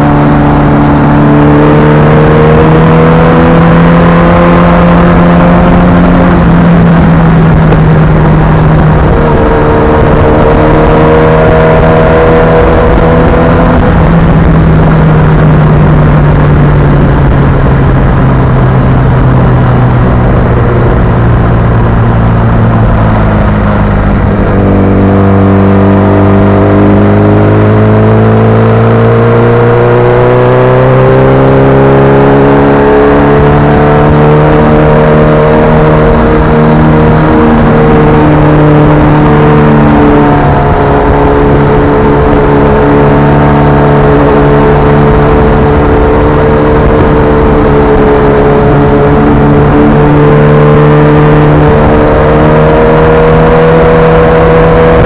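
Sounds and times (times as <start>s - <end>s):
motorcycle engine running at speed: 0.0s - 55.0s
rushing wind: 0.0s - 55.0s.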